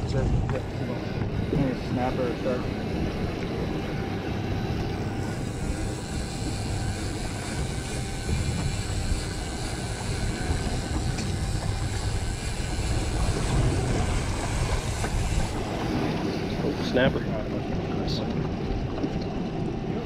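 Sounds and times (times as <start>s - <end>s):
water moving around a hull: 0.0s - 20.0s
wind buffeting microphone: 0.0s - 20.0s.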